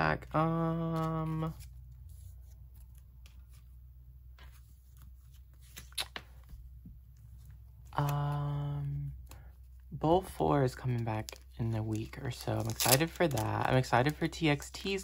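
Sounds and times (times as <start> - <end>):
plastic sleeves rustling: 0.0 - 15.0.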